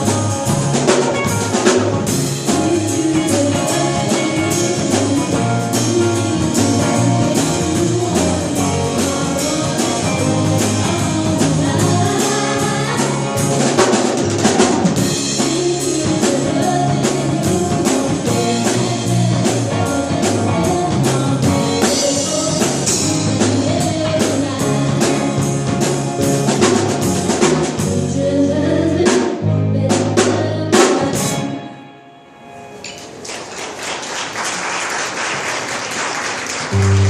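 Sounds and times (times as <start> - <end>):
drum kit beats: 0.0 - 28.3, 28.9 - 31.5, 36.6 - 37.0
bass: 0.0 - 31.7, 36.6 - 37.0
live band playing: 0.0 - 34.6, 35.3 - 37.0.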